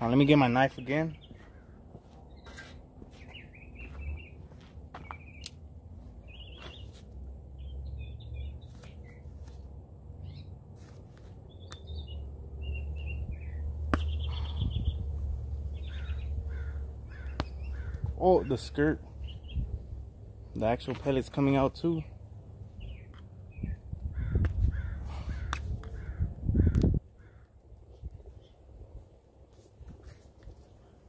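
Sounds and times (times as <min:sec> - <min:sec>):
small birds chirping: 0:00.0 - 0:28.7.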